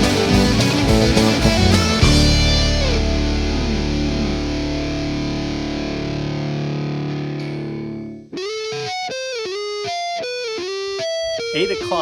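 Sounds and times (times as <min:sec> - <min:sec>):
quick guitar note run: 0:00.0 - 0:09.8
distorted electric guitar chord: 0:00.0 - 0:12.0.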